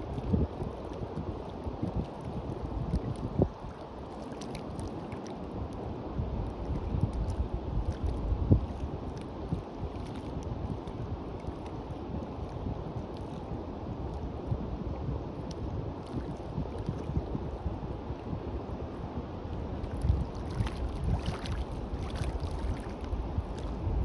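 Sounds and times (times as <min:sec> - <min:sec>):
light water splashes: 0:00.0 - 0:14.3, 0:15.3 - 0:18.4, 0:19.4 - 0:24.0
sea waves washing on a beach: 0:00.0 - 0:24.0
wind buffeting the microphone: 0:00.0 - 0:24.0.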